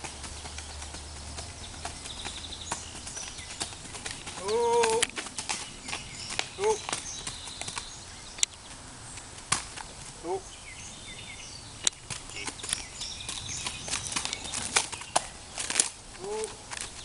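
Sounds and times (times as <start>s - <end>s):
faint birds chirping: 0.0s - 17.0s
horse hooves on gravel: 0.0s - 17.0s.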